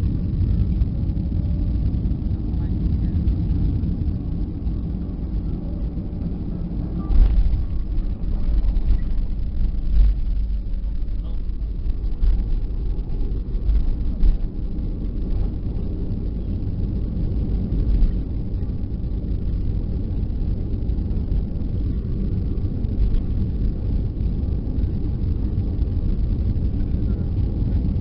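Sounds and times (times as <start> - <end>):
jet engines rumbling in cabin: 0.0 - 28.0
rushing air: 0.0 - 28.0.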